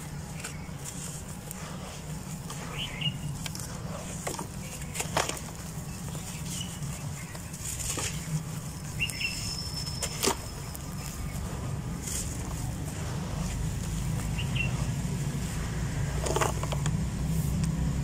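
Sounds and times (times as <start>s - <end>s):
dry dirt rustling and trickling: 0.0s - 18.0s.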